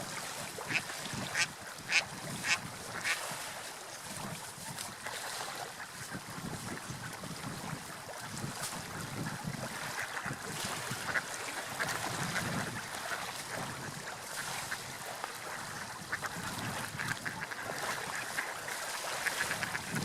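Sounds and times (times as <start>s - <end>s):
sea surf washing: 0.0s - 20.0s.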